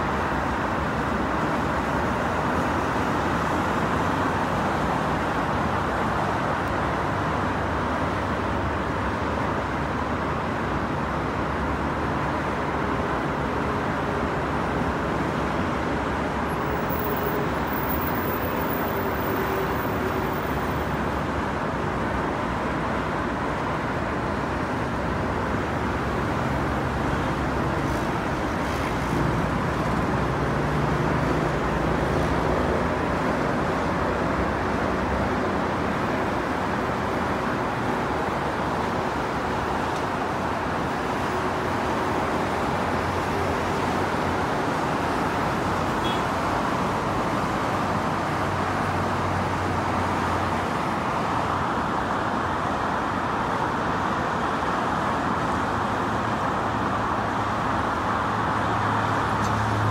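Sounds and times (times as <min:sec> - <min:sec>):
highway traffic hum: 0:00.0 - 0:59.9.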